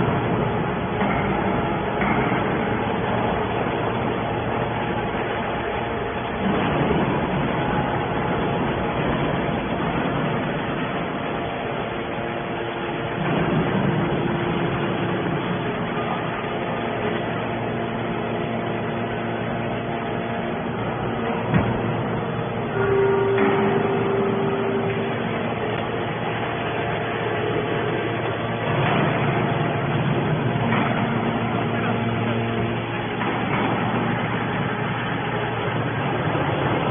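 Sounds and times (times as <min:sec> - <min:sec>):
baler engine and hydraulics running: 0:00.0 - 0:36.9.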